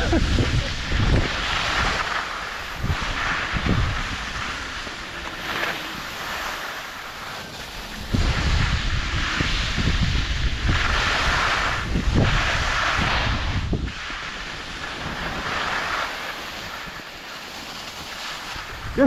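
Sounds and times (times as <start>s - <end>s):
wind buffeting microphone: 0.0s - 6.7s, 7.6s - 17.2s, 18.0s - 19.0s
skis hissing on wet snow: 0.0s - 19.0s.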